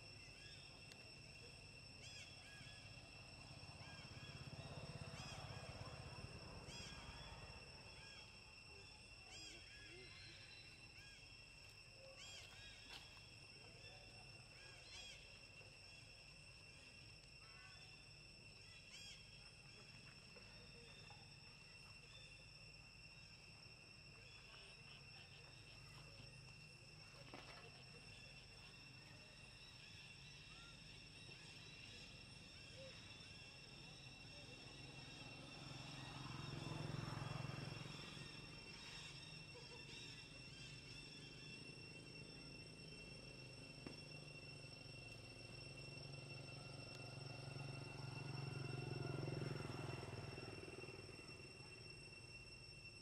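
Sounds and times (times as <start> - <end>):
high-pitched insect drone: 0.0 - 53.0.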